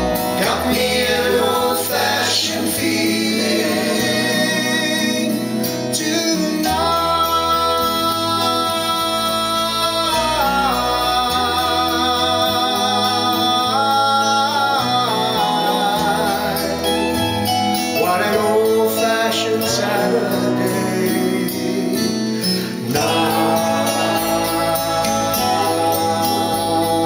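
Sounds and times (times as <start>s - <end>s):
music through speakers: 0.0s - 27.0s.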